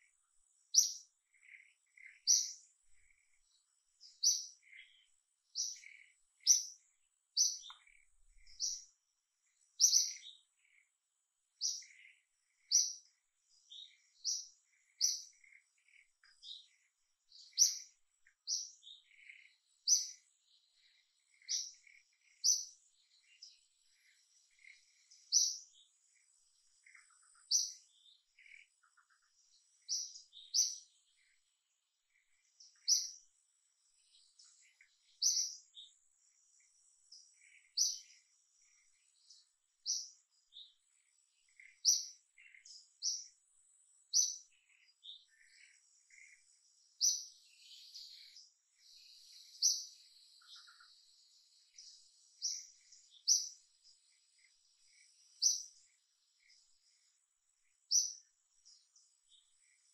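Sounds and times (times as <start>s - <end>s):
softer lower bird chirps: 0.0s - 59.9s.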